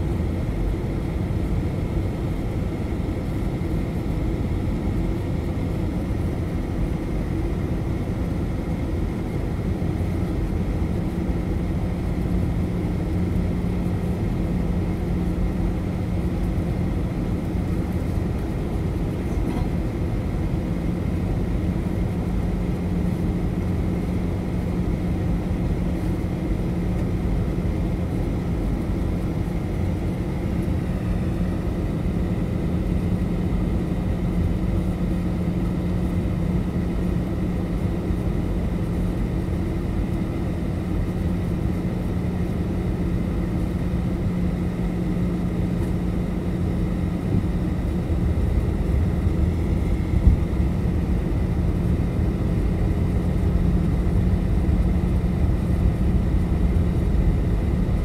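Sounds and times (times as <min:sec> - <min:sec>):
airplane engines and airflow drone: 0:00.0 - 0:58.0
constant low hum: 0:00.0 - 0:58.0.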